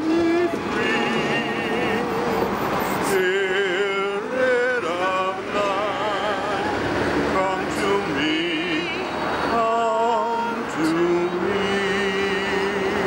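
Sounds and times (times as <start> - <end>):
voices singing a slow hymn: 0.0 - 13.0.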